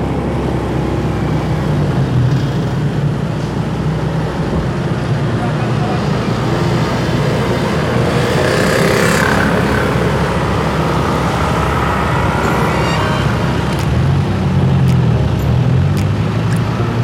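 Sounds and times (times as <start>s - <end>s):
motorcycle engine humming: 0.0s - 17.0s
road and traffic noise: 0.0s - 17.0s.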